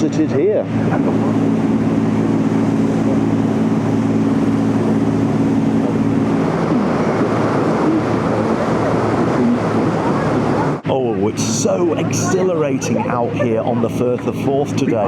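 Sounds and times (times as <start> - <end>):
boat engine humming: 0.0 - 15.0
water rushing: 0.0 - 15.0.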